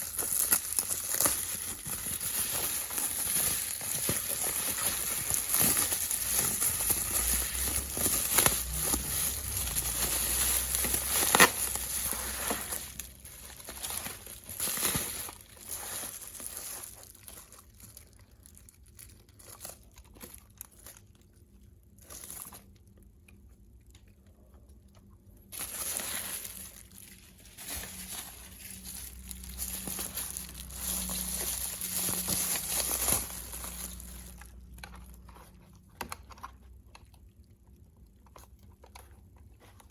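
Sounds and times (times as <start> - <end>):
packaging crinkling and rustling: 0.0 - 24.0, 24.9 - 37.2.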